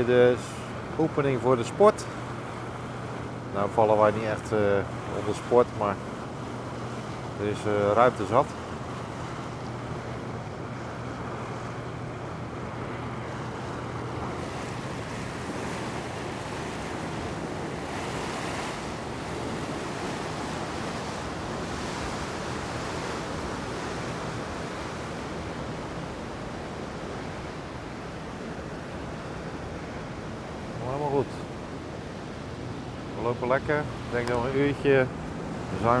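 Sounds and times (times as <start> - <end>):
low engine hum: 0.0 - 36.0
rush of wind and water: 0.0 - 36.0.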